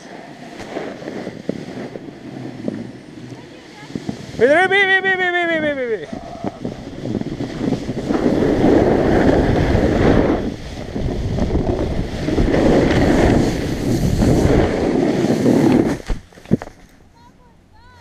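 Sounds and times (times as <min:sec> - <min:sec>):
wind rushing over microphone: 0:00.0 - 0:16.8
skis scraping over snow: 0:00.0 - 0:16.9.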